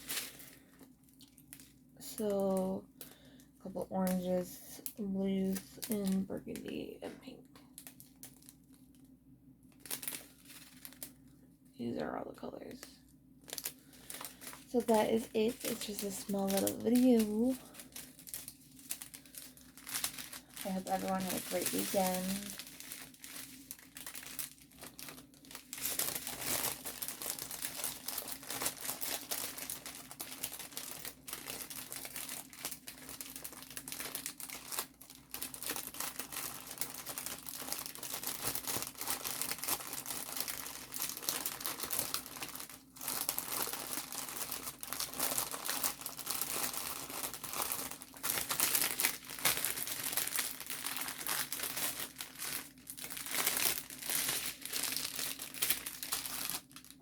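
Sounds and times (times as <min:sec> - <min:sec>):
plastic packaging crinkling: 0:00.0 - 0:57.0.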